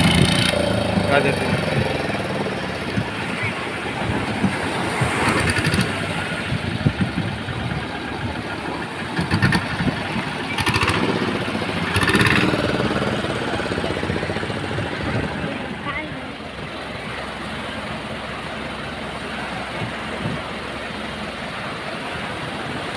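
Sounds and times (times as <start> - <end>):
motor engine running: 0.0 - 21.2
waves breaking on beach: 0.0 - 22.9.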